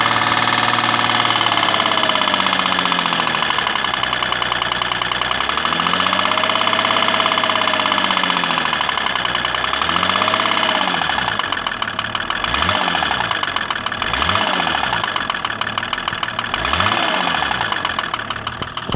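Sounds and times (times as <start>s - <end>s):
diesel engine knocking while revved: 0.0s - 18.9s.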